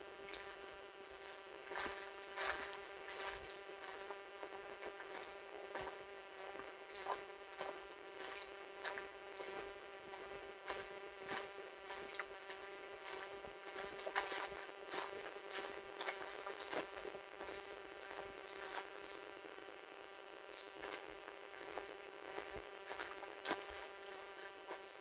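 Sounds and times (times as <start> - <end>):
steady buzzing hum: 0.0 - 25.0
footsteps crunching dry leaves: 0.4 - 19.0, 20.8 - 25.0.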